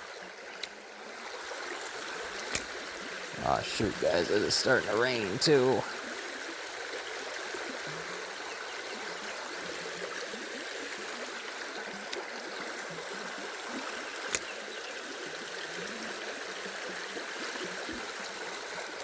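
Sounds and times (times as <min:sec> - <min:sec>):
stream running over rocks: 0:00.0 - 0:19.0.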